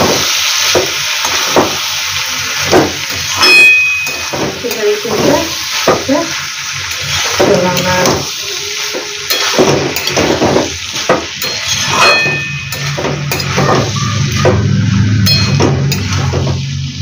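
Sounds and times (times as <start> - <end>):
light sizzle of frying: 0.0 - 17.0
metal spatula scraping a pan: 0.5 - 17.0.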